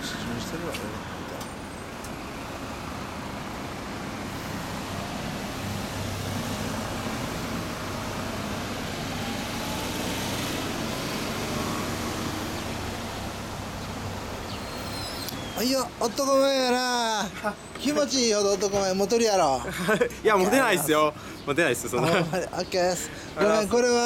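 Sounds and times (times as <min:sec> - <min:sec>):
road traffic hum: 0:00.0 - 0:24.0.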